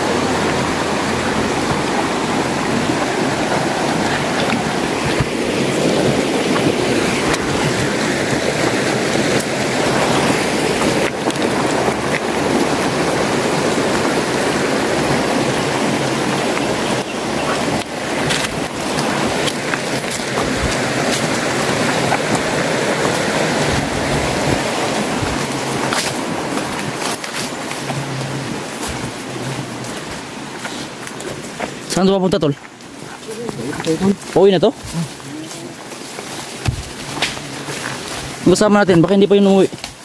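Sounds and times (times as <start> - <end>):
rocky river rushing: 0.0 - 40.0.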